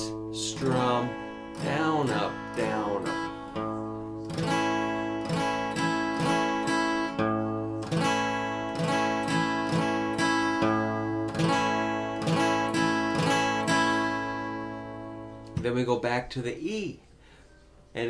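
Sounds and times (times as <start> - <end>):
guitar strumming chord: 0.0 - 15.8.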